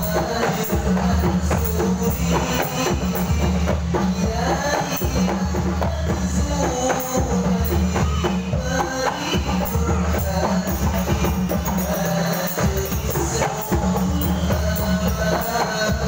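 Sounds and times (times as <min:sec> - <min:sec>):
frame drums with jingles: 0:00.0 - 0:16.0
man singing into microphone: 0:00.0 - 0:16.0.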